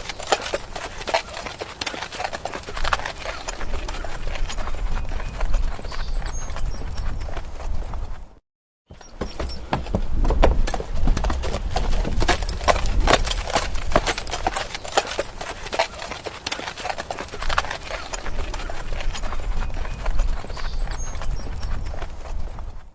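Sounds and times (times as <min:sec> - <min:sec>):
horse hooves clip-clopping: 0:00.0 - 0:22.9.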